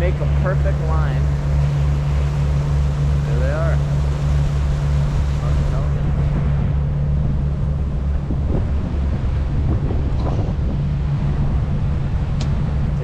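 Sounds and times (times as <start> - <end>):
diesel engines droning: 0.0 - 13.0
wind buffeting microphone: 0.0 - 13.0.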